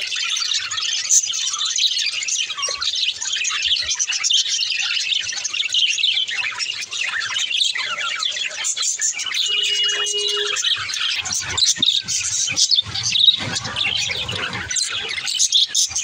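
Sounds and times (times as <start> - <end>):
budgerigars chirping: 0.1 - 16.0.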